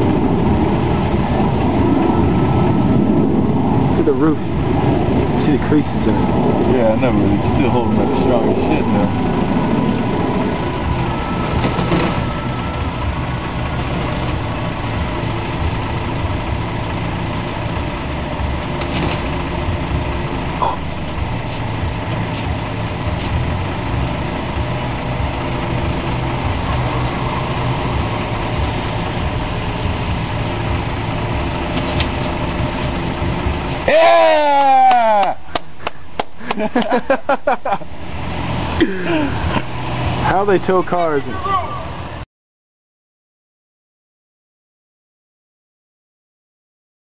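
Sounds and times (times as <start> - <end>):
truck engine idling: 0.0 - 42.2.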